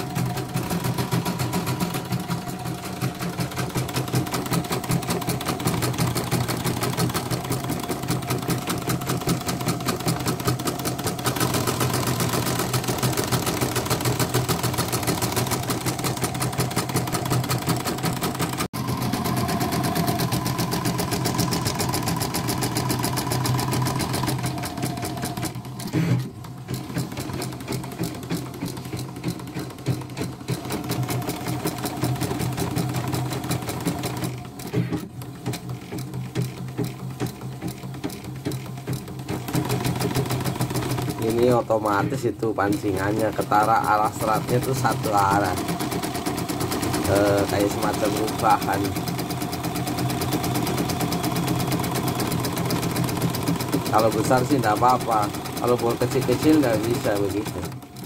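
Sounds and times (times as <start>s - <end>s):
embroidery machine needle clatter: 0.0s - 58.0s
motor hum: 0.0s - 58.0s.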